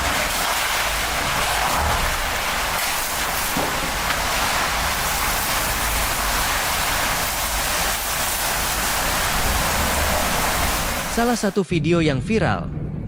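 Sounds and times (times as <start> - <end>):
windstorm with heavy rain: 0.0 - 11.4.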